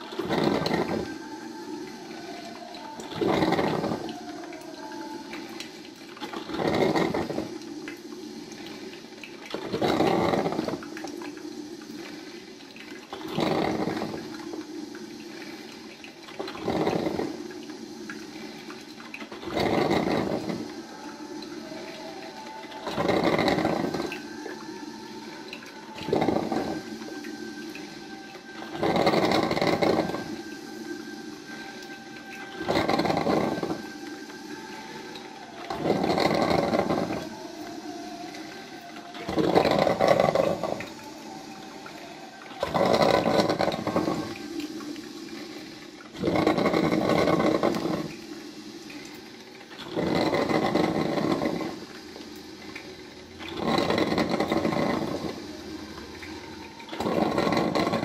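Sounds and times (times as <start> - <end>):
coffee maker gurgling and sputtering: 0.0 - 58.0.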